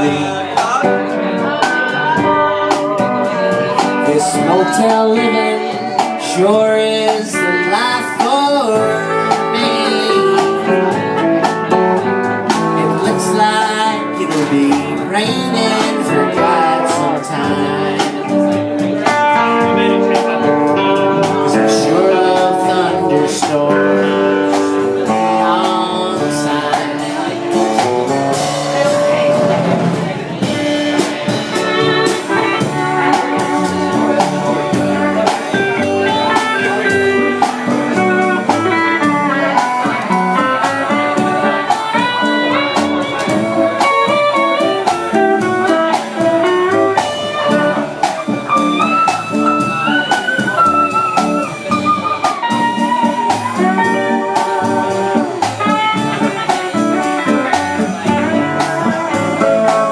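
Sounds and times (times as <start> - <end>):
bass: 0.0 - 59.9
drums: 0.0 - 59.9
lead guitar line: 0.0 - 59.9
steel guitar: 0.0 - 59.9.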